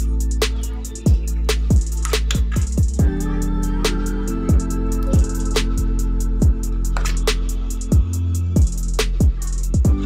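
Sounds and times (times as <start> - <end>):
sustained bass line: 0.0 - 10.0.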